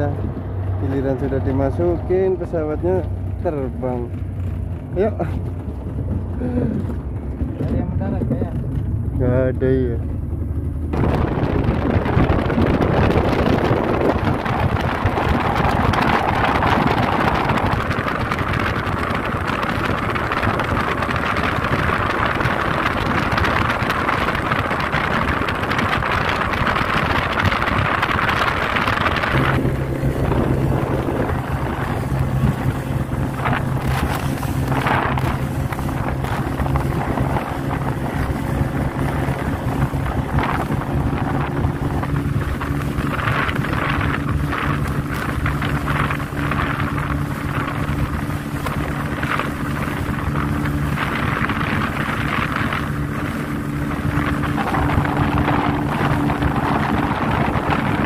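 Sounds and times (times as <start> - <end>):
rush of water: 0.0 - 8.1, 10.9 - 58.0
speedboat outboard engine: 0.0 - 58.0
wind buffeting microphone: 0.0 - 58.0.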